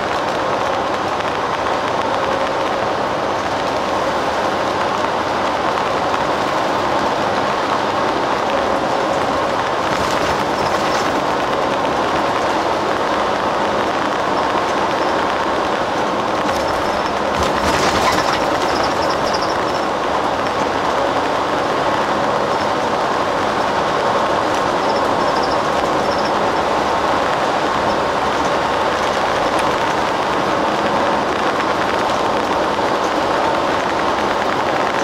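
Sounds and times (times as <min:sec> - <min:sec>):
bus engine droning: 0:00.0 - 0:35.0
tyres on road: 0:00.0 - 0:35.0.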